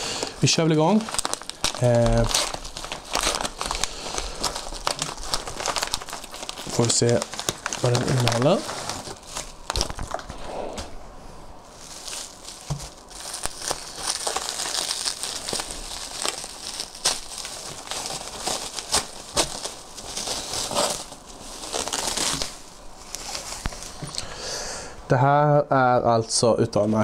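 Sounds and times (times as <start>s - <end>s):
packaging crinkling and rustling: 0.0s - 10.9s, 11.6s - 24.2s.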